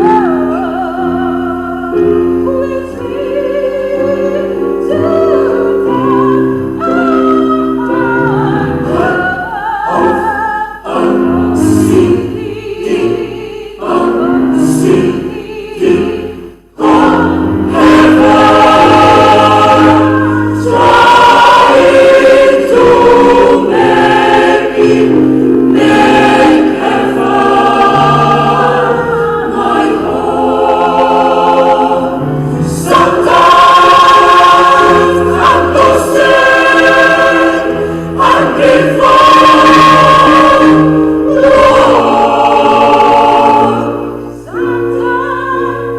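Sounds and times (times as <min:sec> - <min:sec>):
choir singing in parts: 0:00.0 - 0:45.9.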